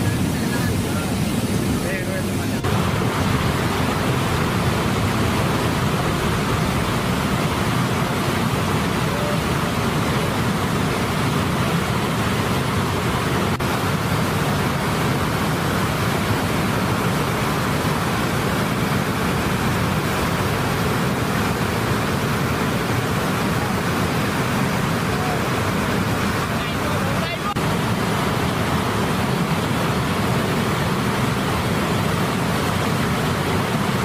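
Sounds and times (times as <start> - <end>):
water roaring over a weir: 0.0 - 34.0.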